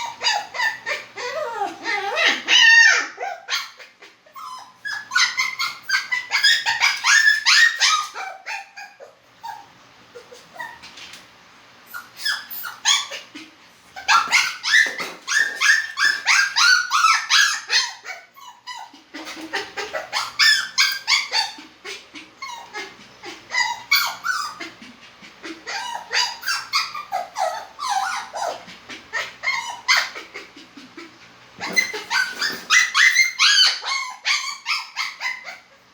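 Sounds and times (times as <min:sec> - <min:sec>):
dog yelping and whining: 0:00.0 - 0:11.1, 0:11.9 - 0:35.9.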